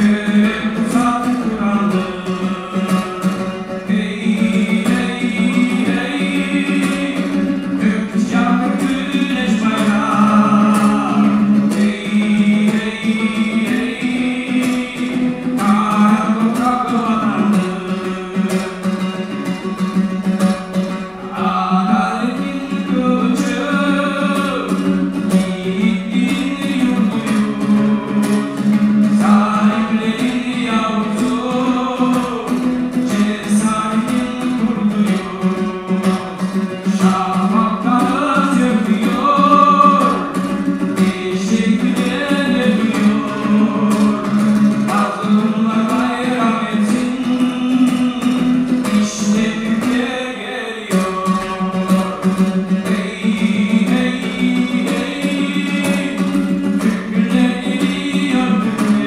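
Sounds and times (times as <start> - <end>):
man singing: 0.0 - 59.0
strummed lute: 0.0 - 59.0.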